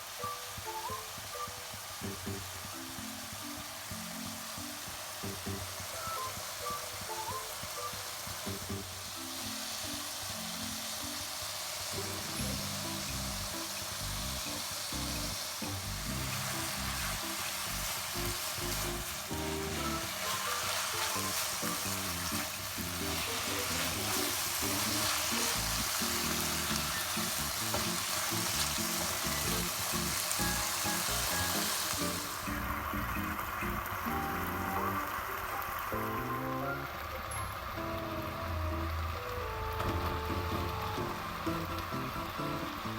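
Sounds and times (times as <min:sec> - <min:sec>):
background music: 0:00.0 - 0:42.9
food frying in a pan: 0:00.0 - 0:42.9.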